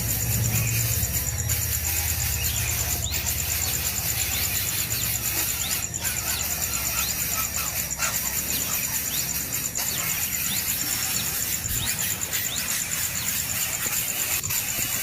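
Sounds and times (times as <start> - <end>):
baby birds begging chirps: 0.0 - 15.0.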